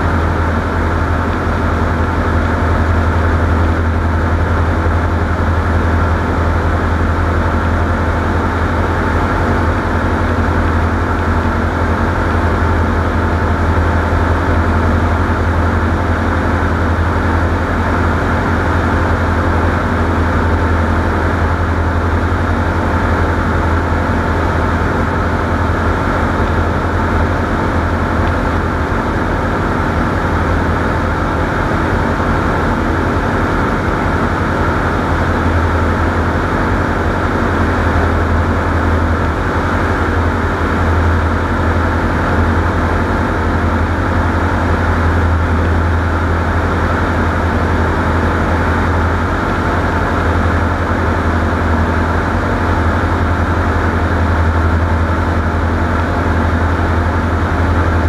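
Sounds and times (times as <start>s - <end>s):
constant drone: 0.0s - 58.0s.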